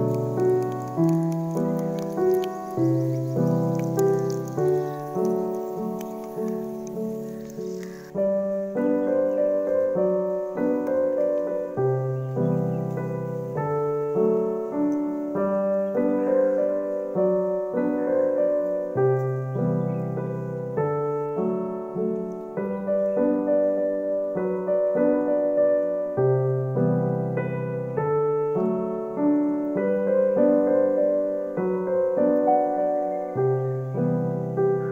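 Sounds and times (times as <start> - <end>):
piano music: 0.0 - 34.9.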